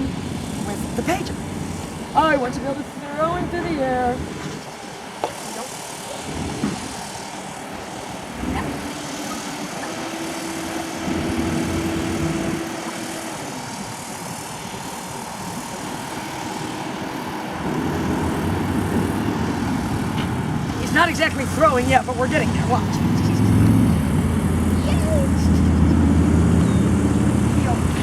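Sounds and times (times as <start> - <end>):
steady engine drone: 0.0 - 28.0.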